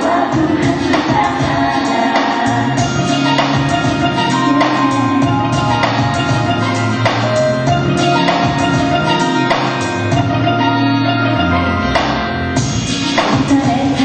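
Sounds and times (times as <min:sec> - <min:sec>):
steady drum beat: 0:00.0 - 0:10.6, 0:12.0 - 0:14.0
live band instrumental music: 0:00.0 - 0:14.0.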